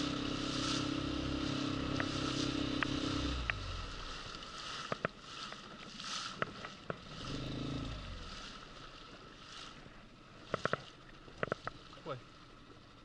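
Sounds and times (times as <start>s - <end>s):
faint water and air noise: 0.0s - 13.0s.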